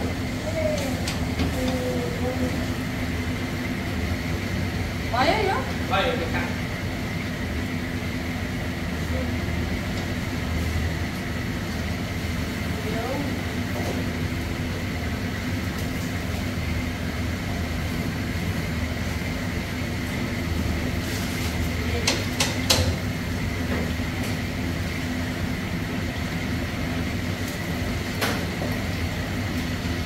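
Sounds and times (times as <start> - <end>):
dough frying in hot oil: 0.0 - 30.0.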